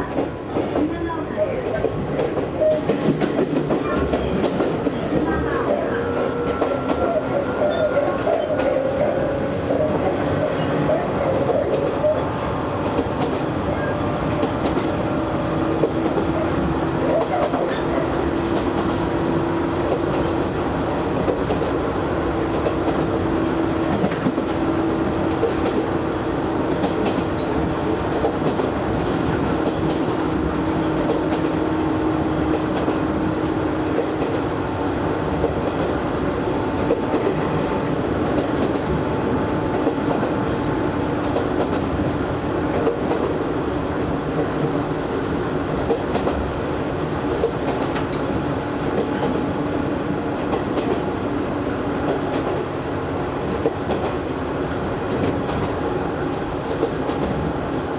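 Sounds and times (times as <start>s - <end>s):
train running noise: 0.0s - 57.9s.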